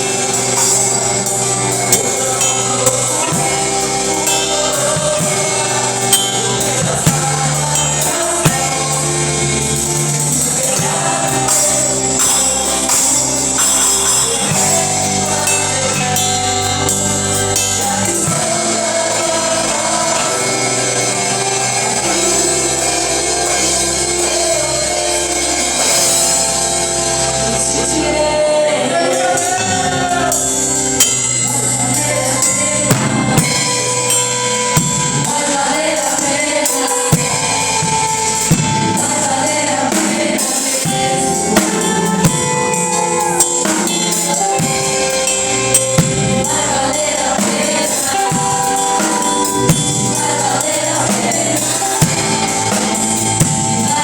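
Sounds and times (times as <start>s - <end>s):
sharp percussion hits: 0.0s - 27.9s, 29.4s - 54.0s
held keyboard chords: 0.0s - 54.0s
people singing: 0.0s - 54.0s.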